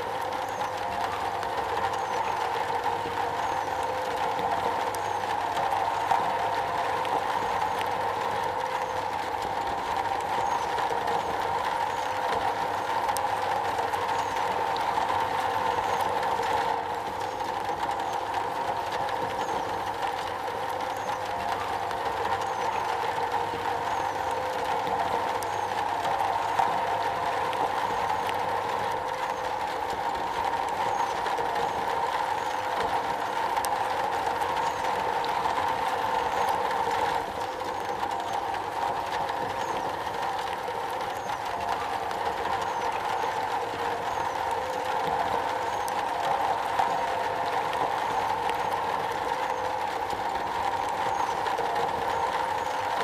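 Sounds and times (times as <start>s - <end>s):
rain on metal: 0.0s - 53.0s.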